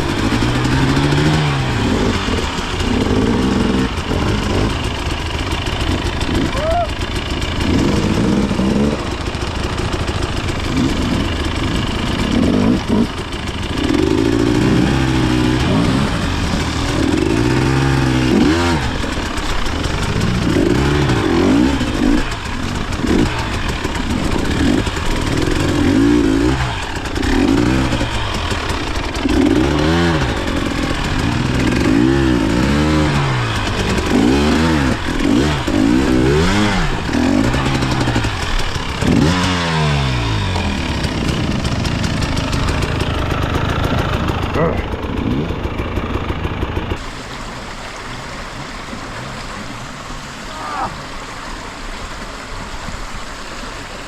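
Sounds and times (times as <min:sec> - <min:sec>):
dirt bike engine revving: 0:00.0 - 0:52.5.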